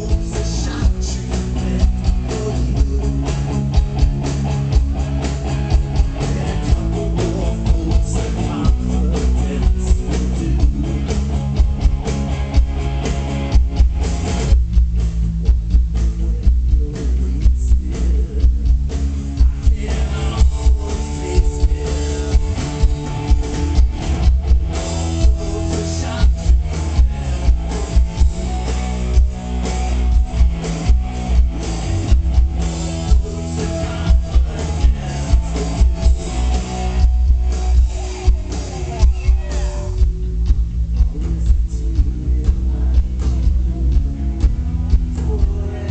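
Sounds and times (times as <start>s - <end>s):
booming bass: 0.0s - 45.9s
live rock band playing: 0.0s - 45.9s.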